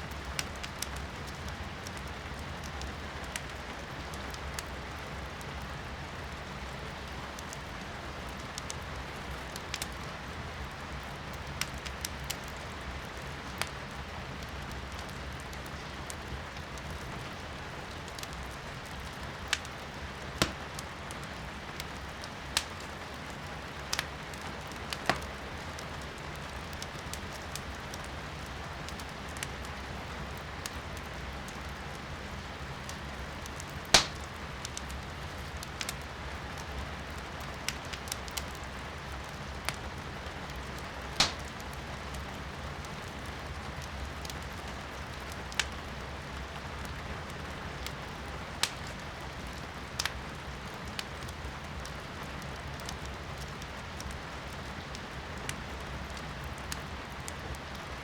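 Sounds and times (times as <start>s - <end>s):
firewood crackling and popping: 0.0s - 58.0s
rain heard from indoors: 0.0s - 58.0s.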